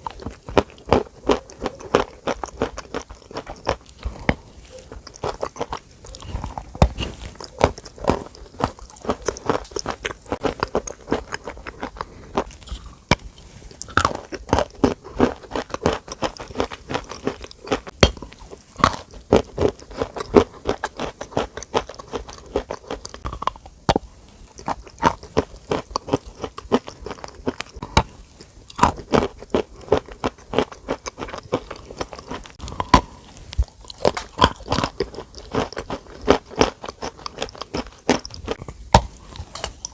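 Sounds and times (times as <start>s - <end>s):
crisp crunching crackles: 0.0s - 39.9s.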